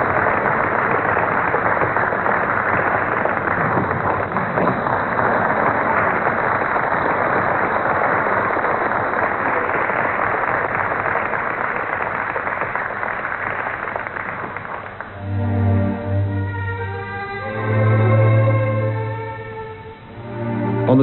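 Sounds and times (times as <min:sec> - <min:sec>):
crowd applauding and cheering: 0:00.0 - 0:21.0.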